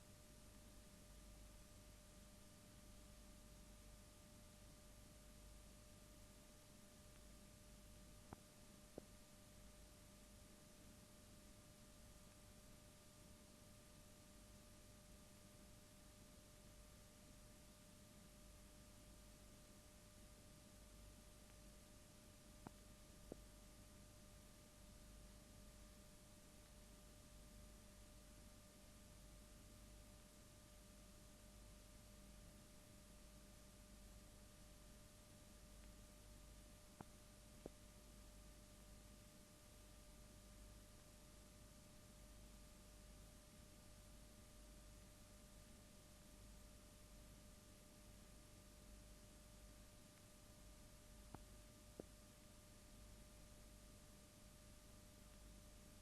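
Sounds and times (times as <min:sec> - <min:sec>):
faint hum tone: 0:00.0 - 0:56.0.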